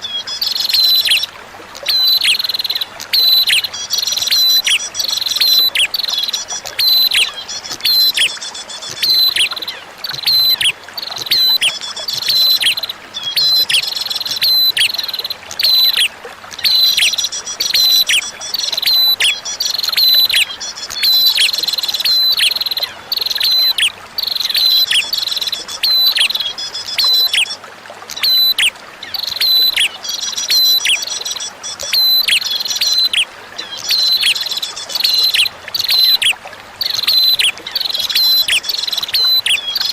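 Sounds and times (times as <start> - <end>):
bird singing high chirps: 0.0 - 39.9
water trickling: 0.0 - 39.9.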